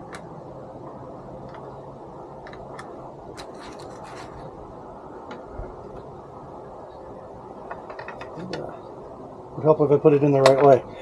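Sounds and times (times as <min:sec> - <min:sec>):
steady low background noise: 0:00.0 - 0:11.0.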